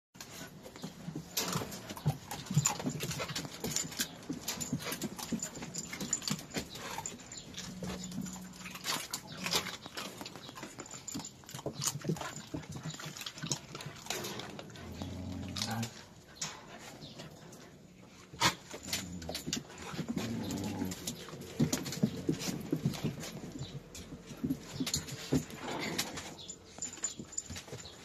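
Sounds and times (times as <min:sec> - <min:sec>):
puppies scuffling on a blanket: 0:00.2 - 0:28.0
puppy sounds: 0:00.2 - 0:28.0.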